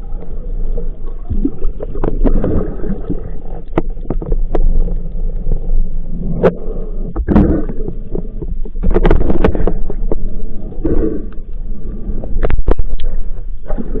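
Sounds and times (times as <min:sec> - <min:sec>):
muffled water and movement noise: 0:00.0 - 0:14.0.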